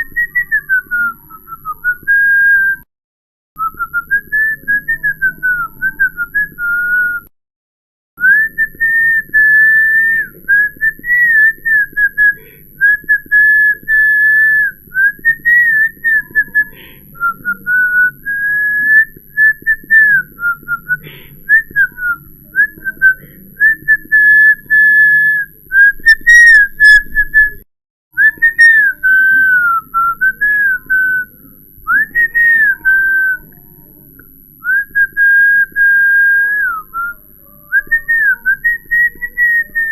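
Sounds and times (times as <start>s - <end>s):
person whistling: 0.0s - 2.9s, 3.6s - 7.3s, 8.2s - 27.6s, 28.2s - 31.3s, 31.9s - 33.6s, 34.6s - 39.9s.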